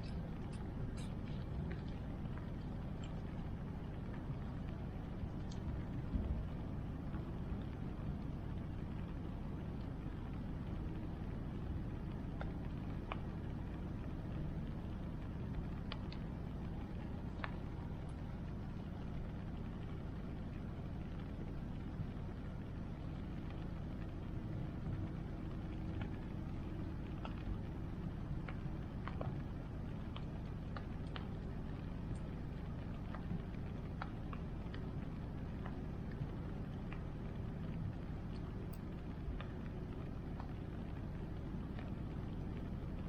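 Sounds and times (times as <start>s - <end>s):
bonfire crackling and popping: 0.0s - 43.0s.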